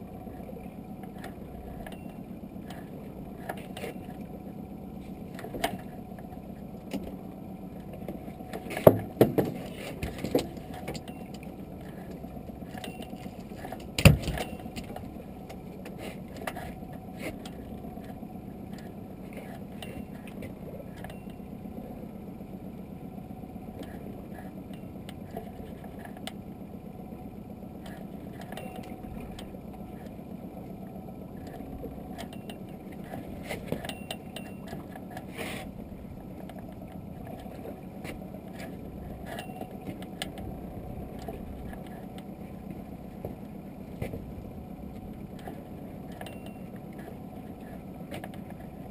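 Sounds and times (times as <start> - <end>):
steady low hum: 0.0 - 48.9
knocks and clatter on boat: 0.1 - 21.5, 23.7 - 26.5, 27.7 - 48.9.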